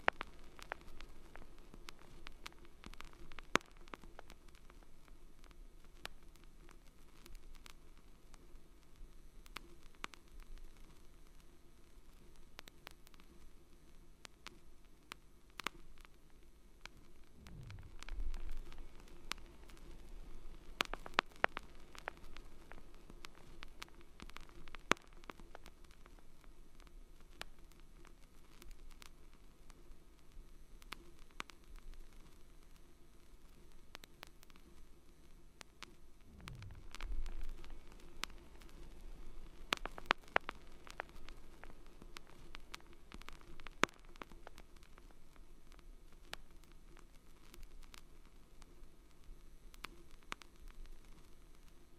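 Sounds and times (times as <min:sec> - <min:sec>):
faint hiss: 0:00.0 - 0:51.9
faint steady hum: 0:00.0 - 0:51.9
sharp clicks and crackles: 0:00.0 - 0:51.9.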